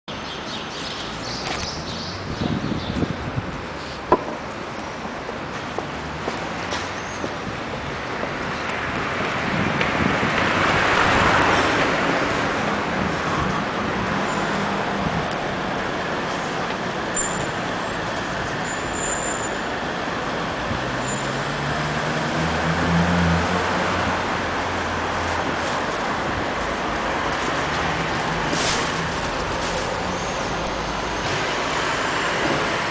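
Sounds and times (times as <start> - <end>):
passing cars and vans: 0.1 - 32.9.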